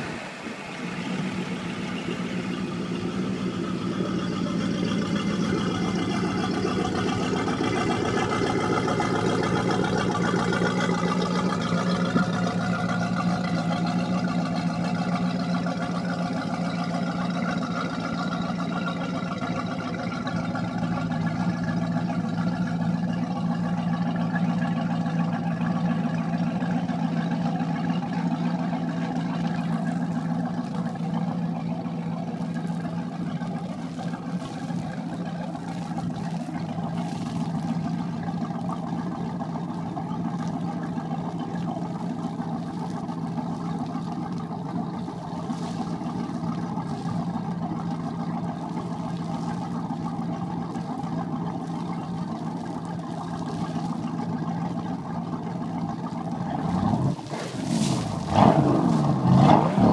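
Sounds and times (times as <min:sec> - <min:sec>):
boat engine idling: 0:00.0 - 0:59.9.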